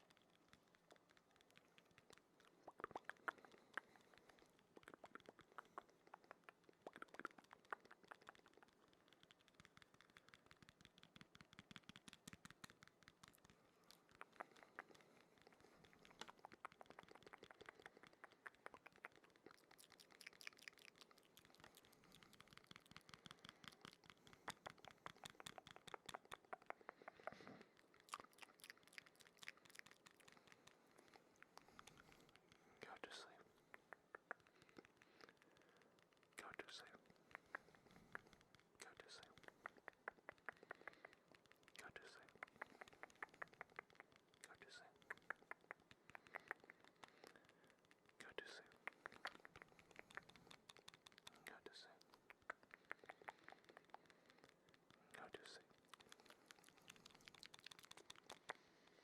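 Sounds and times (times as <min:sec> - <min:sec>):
wet mouth clicks and smacks: 0:00.0 - 0:59.0.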